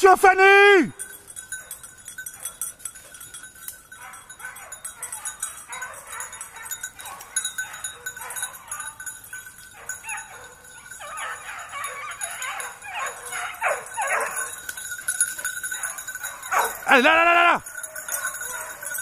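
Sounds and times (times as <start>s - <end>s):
hounds yelping: 1.4s - 19.0s.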